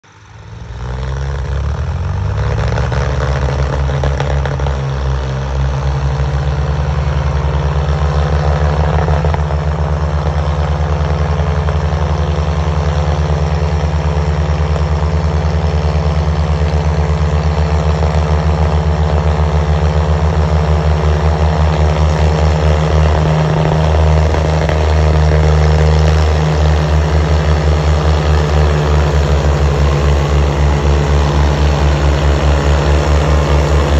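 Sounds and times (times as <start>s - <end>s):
tractor diesel engines throbbing: 0.0s - 33.9s.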